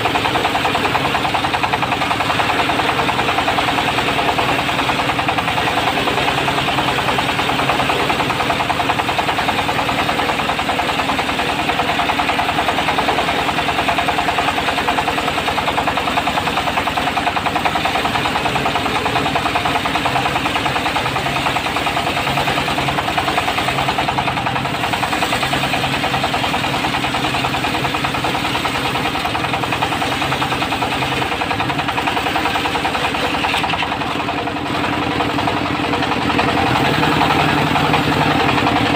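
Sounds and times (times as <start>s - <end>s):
diesel engine knocking steadily: 0.0s - 38.9s.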